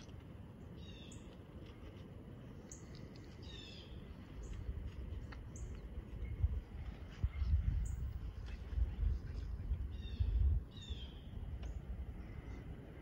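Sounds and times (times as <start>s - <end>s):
small birds chirping: 0.0s - 1.4s, 2.6s - 8.7s, 9.4s - 12.7s.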